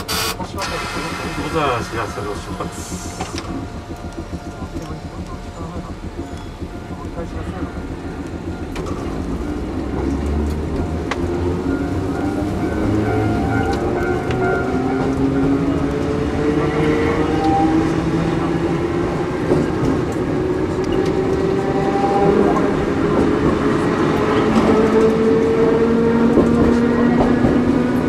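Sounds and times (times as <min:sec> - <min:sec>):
train traction motor whine: 0:00.0 - 0:28.0
wheels rumbling on rail: 0:00.0 - 0:28.0.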